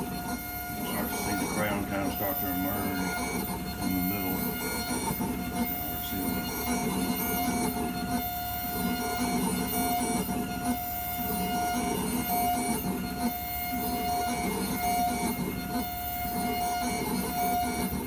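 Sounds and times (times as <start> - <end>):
spindle whine: 0.0 - 18.0.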